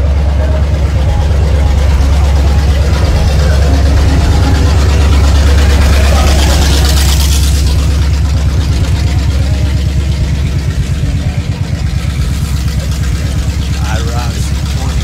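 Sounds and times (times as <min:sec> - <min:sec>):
car exhaust rumble: 0:00.0 - 0:15.0.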